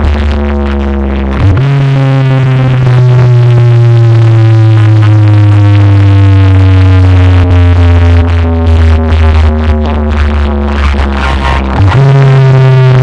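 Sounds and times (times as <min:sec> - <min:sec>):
electronic dance music: 0:00.0 - 0:13.0
sliding synth bass note: 0:00.0 - 0:13.0.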